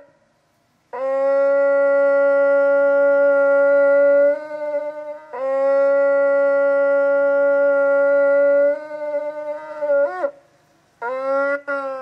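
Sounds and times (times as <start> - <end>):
shofar blowing long notes: 0.9 - 10.4, 11.0 - 12.0.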